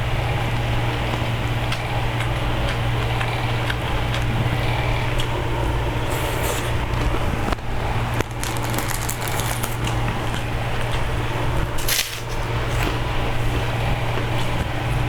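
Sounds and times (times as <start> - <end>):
low hum with hiss: 0.0 - 15.0
eating clicks and crackles: 0.5 - 13.0.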